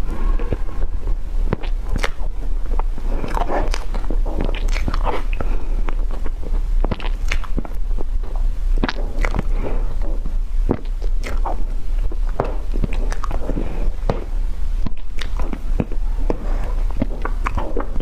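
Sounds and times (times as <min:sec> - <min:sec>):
person chewing crunchy food: 0:00.0 - 0:18.0
steady low hum: 0:00.0 - 0:18.0.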